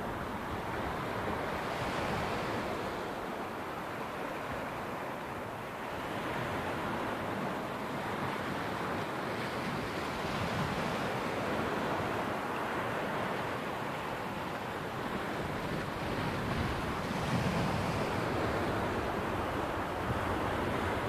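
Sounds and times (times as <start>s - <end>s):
small waves washing onto beach: 0.0s - 21.0s.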